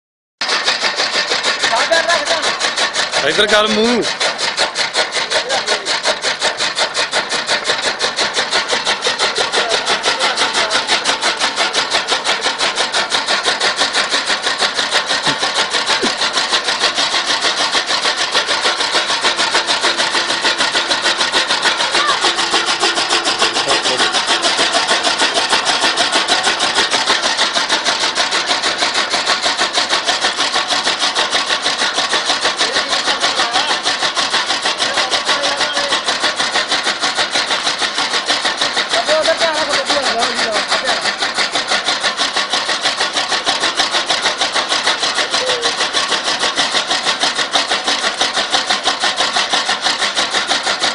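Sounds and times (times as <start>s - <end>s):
chaff cutter clattering: 0.4s - 50.9s.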